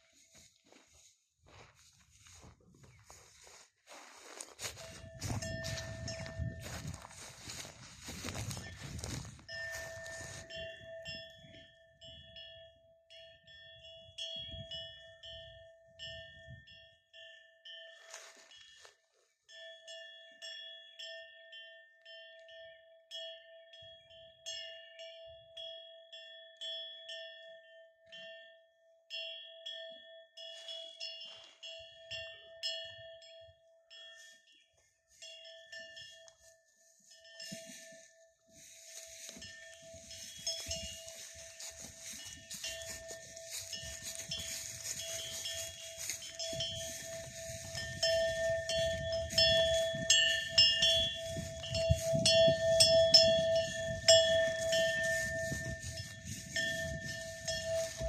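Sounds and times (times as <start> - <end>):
livestock bell ringing: 2.2 - 58.0.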